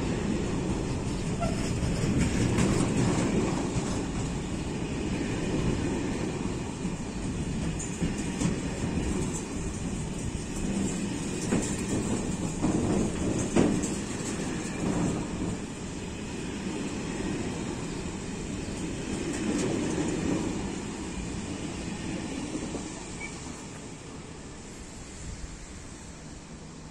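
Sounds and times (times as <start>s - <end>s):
freight train wheels rumbling: 0.0s - 26.9s.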